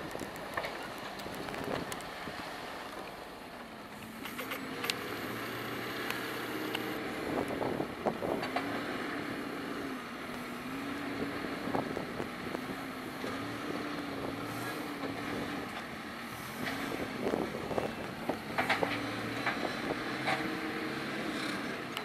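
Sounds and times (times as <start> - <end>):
diesel engine revving: 3.8 - 22.0.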